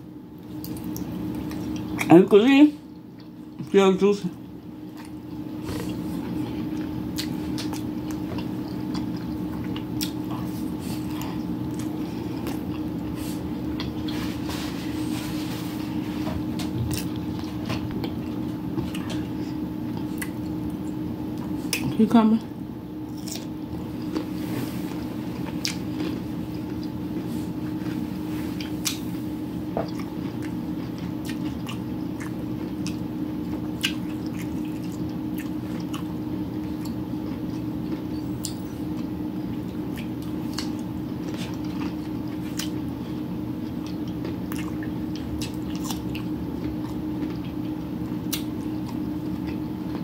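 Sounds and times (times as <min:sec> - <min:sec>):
steady low hum: 0:00.0 - 0:50.0
crunching and chewing cucumber: 0:00.4 - 0:02.3, 0:02.9 - 0:22.0, 0:22.9 - 0:50.0.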